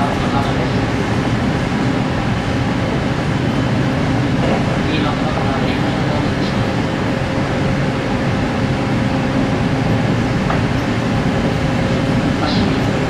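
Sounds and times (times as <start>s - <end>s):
faint steady hum: 0.0s - 13.0s
train wheels rumbling on rail: 0.0s - 13.0s.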